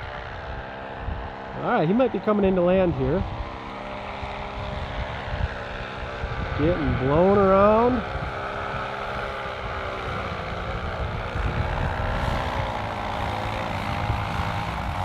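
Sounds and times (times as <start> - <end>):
paramotor engine buzzing: 0.0 - 15.0
wind rumbling on microphone: 0.0 - 15.0.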